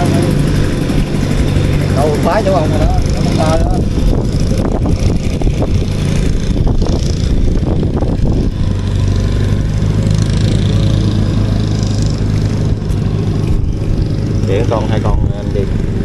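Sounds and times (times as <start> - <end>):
small engine humming: 0.0 - 16.0.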